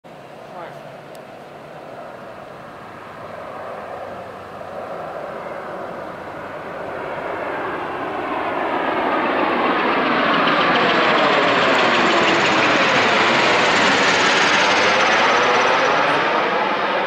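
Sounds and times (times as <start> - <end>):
tiltrotor aircraft rotors and engines: 0.1 - 17.0.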